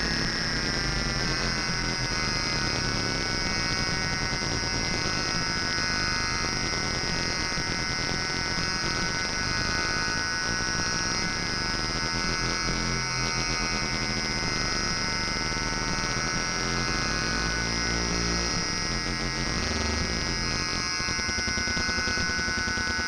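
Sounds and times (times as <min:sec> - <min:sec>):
high buzzing synthesizer tones: 0:00.0 - 0:23.0.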